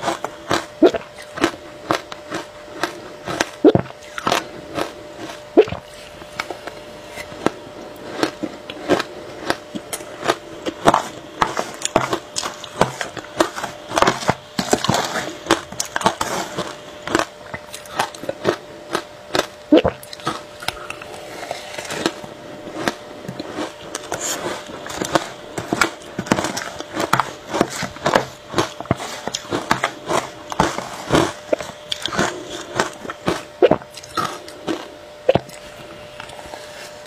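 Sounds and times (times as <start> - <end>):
shaved ice crunching as chewed: 0.0 - 37.0.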